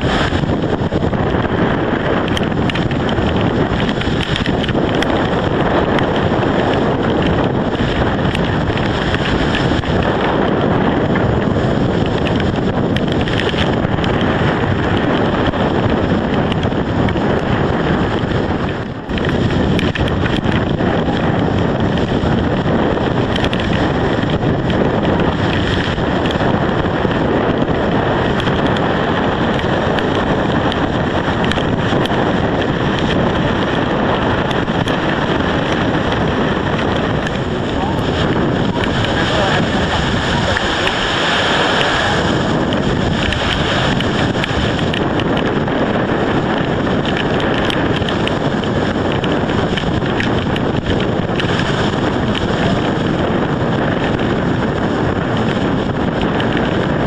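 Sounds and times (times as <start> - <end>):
choppy lake water: 0.0 - 57.0
wind buffeting microphone: 0.0 - 57.0.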